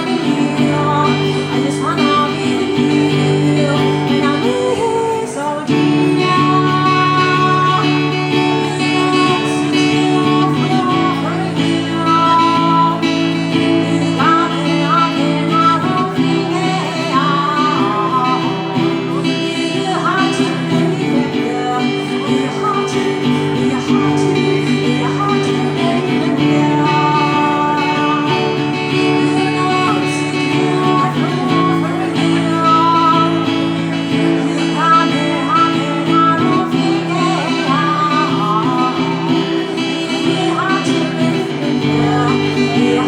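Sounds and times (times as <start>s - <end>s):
acoustic guitar chords: 0.0s - 43.0s
sliding guitar melody: 0.0s - 43.0s.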